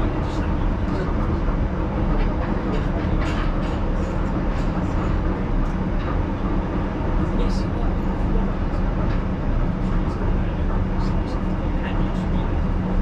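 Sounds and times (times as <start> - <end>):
train wheels and motors rumbling: 0.0 - 13.0.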